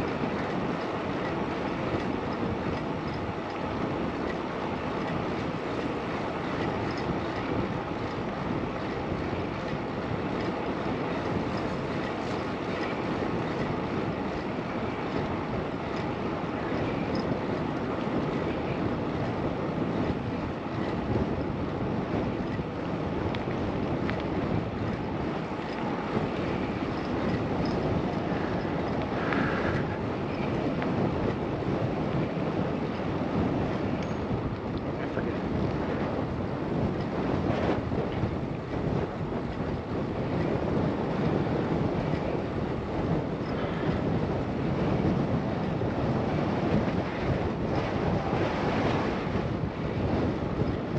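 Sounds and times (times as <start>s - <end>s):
wind on microphone: 0.0s - 50.9s.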